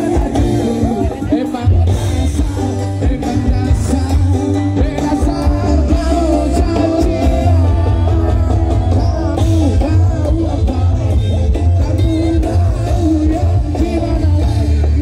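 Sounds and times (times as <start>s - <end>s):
heavy pulsing bass: 0.0s - 15.0s
live band music: 0.0s - 15.0s
person singing: 0.0s - 15.0s.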